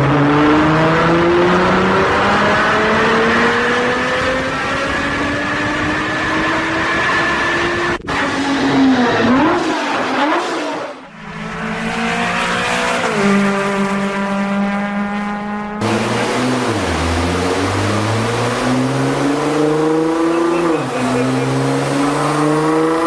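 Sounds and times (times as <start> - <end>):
sports car engine revving: 0.0 - 23.0.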